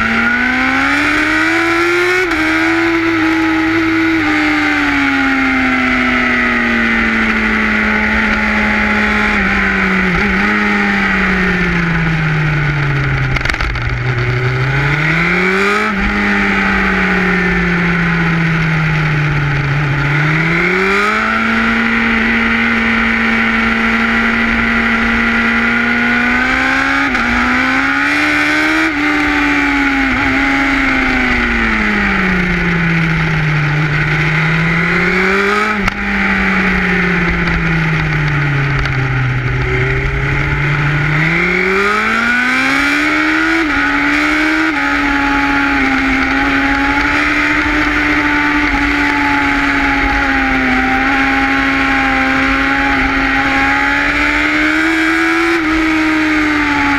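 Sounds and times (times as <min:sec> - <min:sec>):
motorcycle engine revving: 0:00.0 - 0:56.9
wind rumble: 0:00.0 - 0:56.9.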